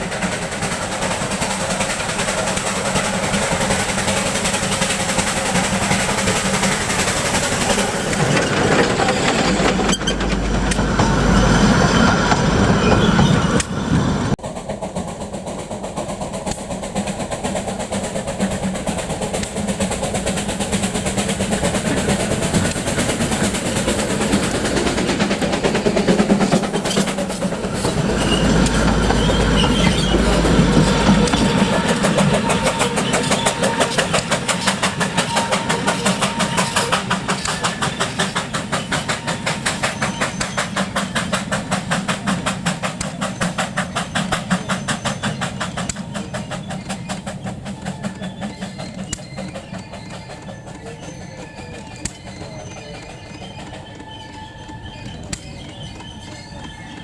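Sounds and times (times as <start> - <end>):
train clattering on track: 0.0 - 57.0.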